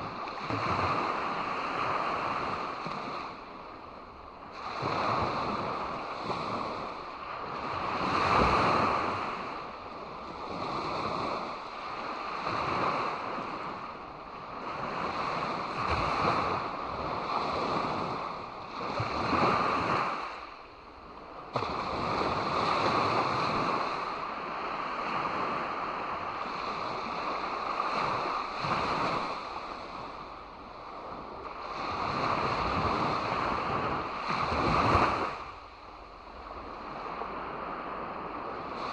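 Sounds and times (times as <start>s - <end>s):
sea waves washing onto beach: 0.0s - 38.9s.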